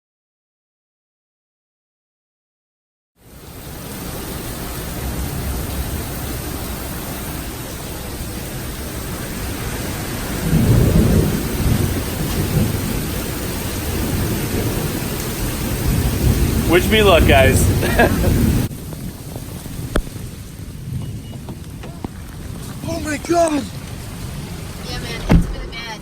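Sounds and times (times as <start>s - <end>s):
heavy rain pouring: 3.2s - 26.0s
thunder rumbling: 3.5s - 26.0s.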